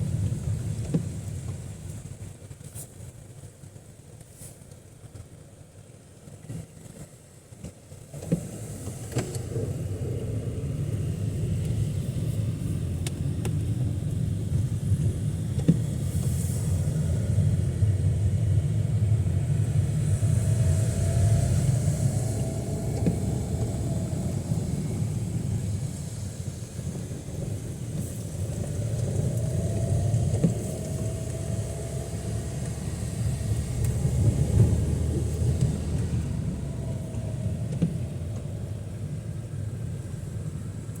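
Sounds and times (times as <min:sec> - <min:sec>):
road traffic rumble: 0:00.0 - 0:41.0.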